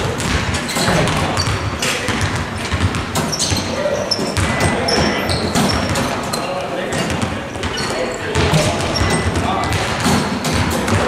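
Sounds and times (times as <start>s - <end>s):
basketballs bouncing on gym floor: 0.0s - 11.0s.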